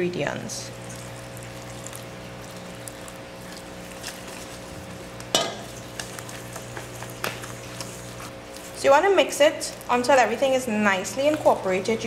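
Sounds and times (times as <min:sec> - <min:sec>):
steady low hum: 0:00.0 - 0:12.0
liquid pouring into bowl: 0:00.7 - 0:12.0
whisk stirring in metal bowl: 0:00.8 - 0:12.0.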